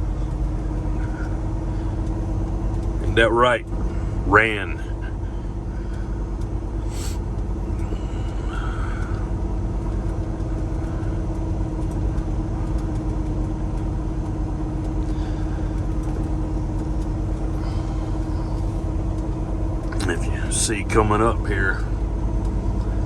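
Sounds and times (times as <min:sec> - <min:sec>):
diesel truck engine droning: 0:00.0 - 0:23.0.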